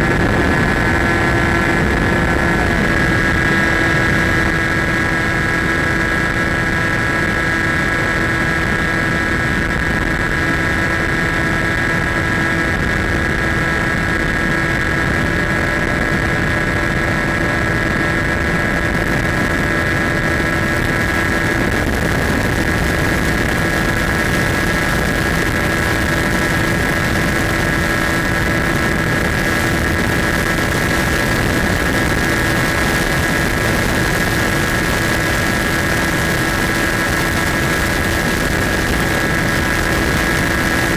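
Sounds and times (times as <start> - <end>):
electric motor propeller whine: 0.0 - 40.9
rush of air: 0.0 - 40.9.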